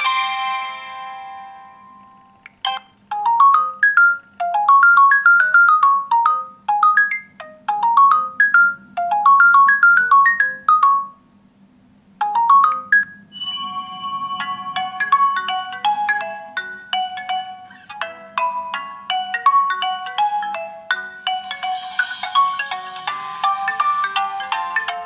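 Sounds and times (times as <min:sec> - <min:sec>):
phone ringtone melody: 0:00.0 - 0:11.2, 0:12.2 - 0:25.0.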